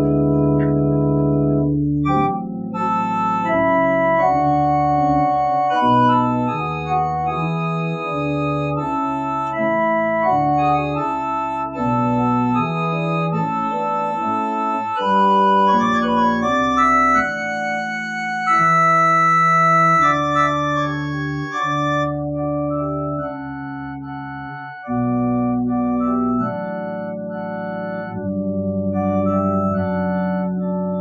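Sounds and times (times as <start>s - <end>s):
church organ playing chords: 0.0s - 31.0s.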